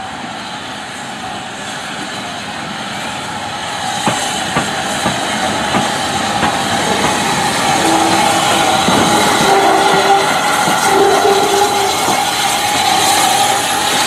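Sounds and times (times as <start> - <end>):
steam locomotive hissing: 0.1 - 14.0.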